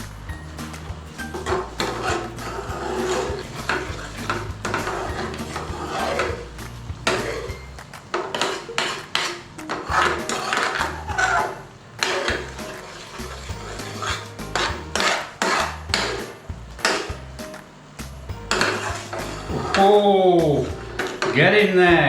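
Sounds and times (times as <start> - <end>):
spoon stirring in a metal pan: 0.0 - 17.5, 18.4 - 21.8
background music: 0.0 - 22.0.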